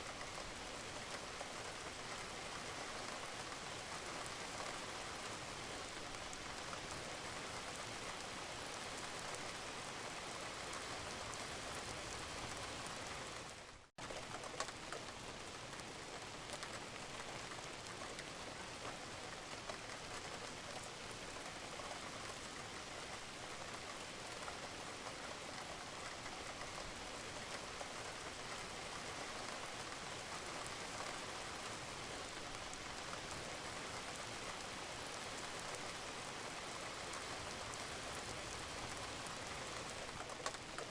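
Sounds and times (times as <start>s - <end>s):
rain on a roof: 0.0s - 40.9s.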